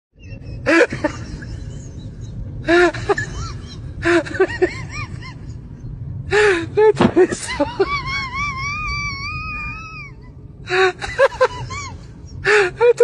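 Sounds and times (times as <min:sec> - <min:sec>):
steady low rumble: 0:00.2 - 0:13.0.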